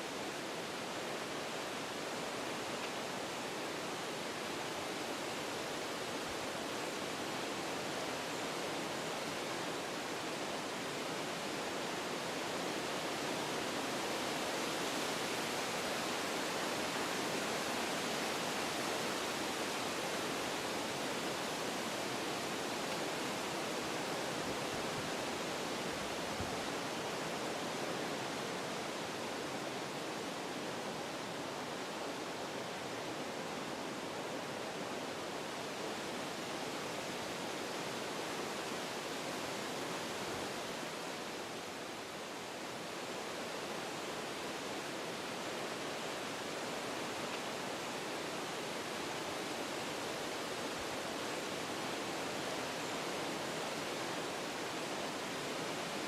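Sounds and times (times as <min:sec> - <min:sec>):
wind through trees: 0:00.0 - 0:56.0.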